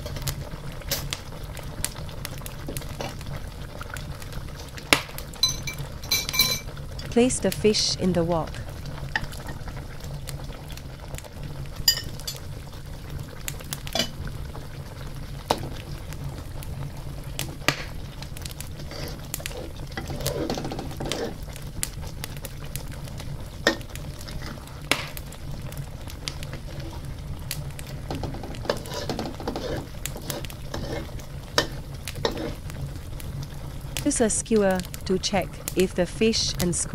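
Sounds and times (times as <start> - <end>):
curry bubbling with sharp pops: 0.0 - 7.7, 8.4 - 35.9.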